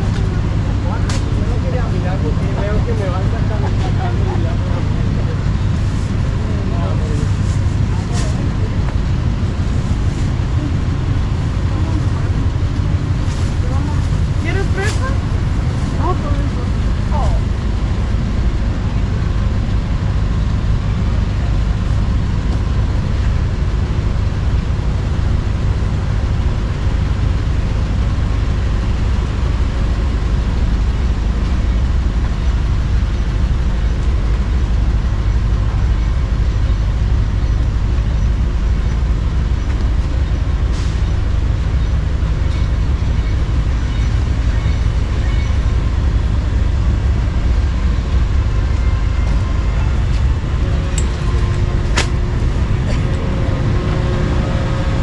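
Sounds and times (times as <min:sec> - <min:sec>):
low rumble of street traffic: 0:00.0 - 0:55.0.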